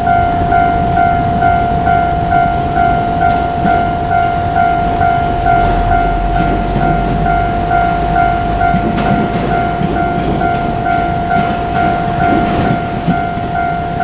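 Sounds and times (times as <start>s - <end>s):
level crossing warning bell: 0.0s - 14.0s
train rumbling past: 0.0s - 14.0s
wheels clicking over rail joints: 0.0s - 14.0s.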